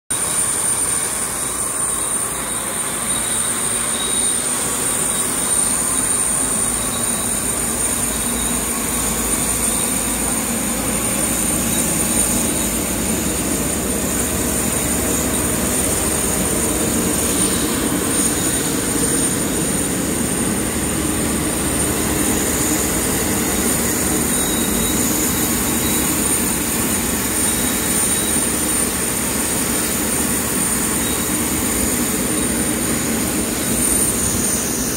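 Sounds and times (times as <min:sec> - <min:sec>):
jet turbine whine: 0:00.1 - 0:34.9.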